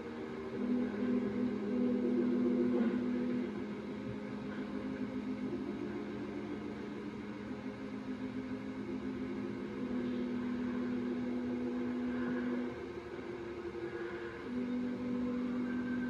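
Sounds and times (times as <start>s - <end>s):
sustained musical chords: 0.0s - 16.0s
tape hiss: 0.0s - 16.0s.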